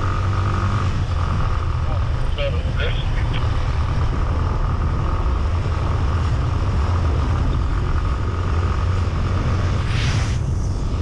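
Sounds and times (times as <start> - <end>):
motorcycle engine running: 0.0 - 9.9
wind rumbling on microphone: 0.0 - 11.0.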